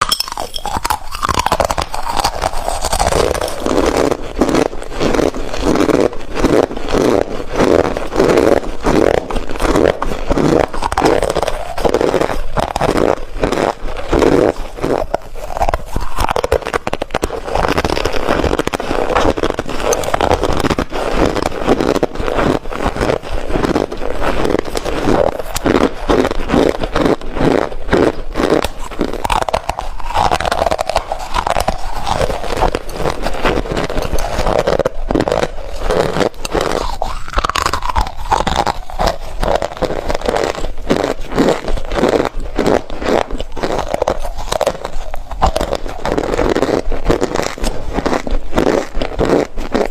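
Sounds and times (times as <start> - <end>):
chewing crunches: 0.0 - 49.9.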